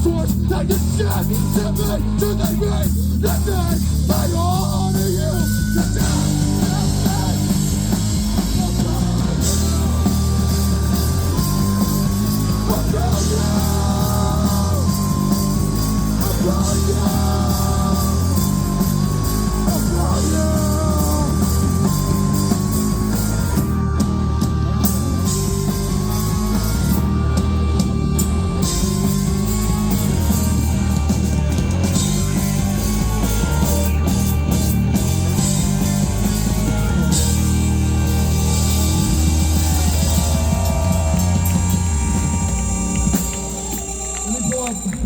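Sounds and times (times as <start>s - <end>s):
live rock band playing: 0.0s - 45.0s.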